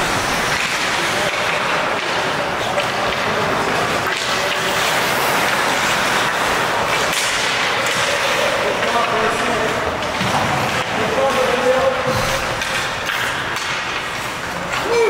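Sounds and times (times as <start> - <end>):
skates on ice: 0.0 - 15.0.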